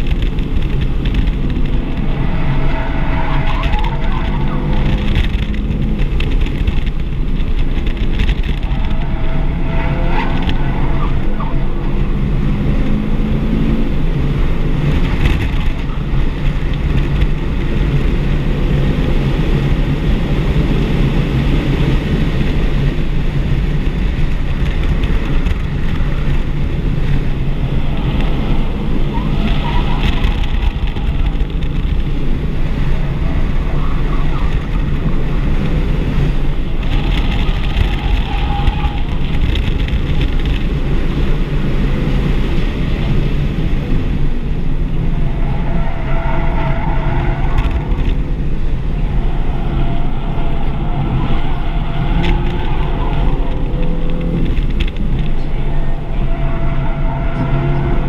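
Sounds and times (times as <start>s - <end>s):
car engine running: 0.0s - 57.4s
road and wind noise: 0.0s - 58.0s.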